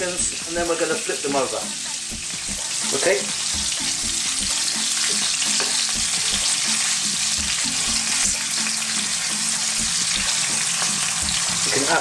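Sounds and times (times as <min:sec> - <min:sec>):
scallops sizzling in oil: 0:00.1 - 0:12.0.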